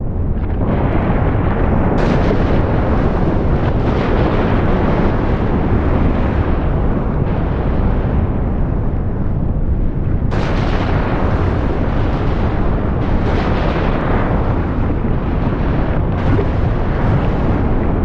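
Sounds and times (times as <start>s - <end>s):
volcano deep rumble: 0.0s - 18.0s.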